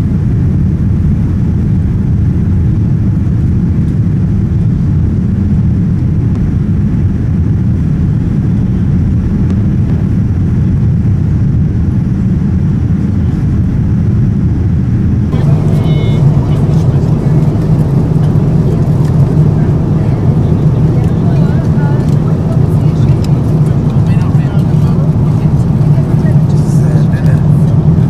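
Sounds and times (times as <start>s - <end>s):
airliner cabin engine roar: 0.0s - 28.0s.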